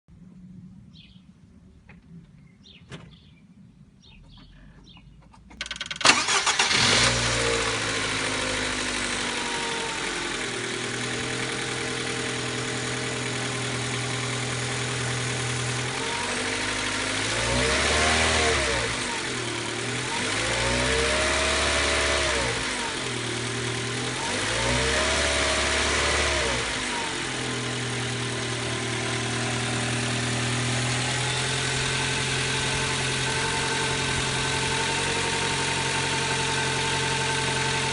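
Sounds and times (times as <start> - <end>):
car engine idling: 4.0 - 17.3, 18.1 - 24.5, 25.3 - 37.9
car engine cranking and starting: 4.0 - 37.9
car engine revving: 6.0 - 37.9.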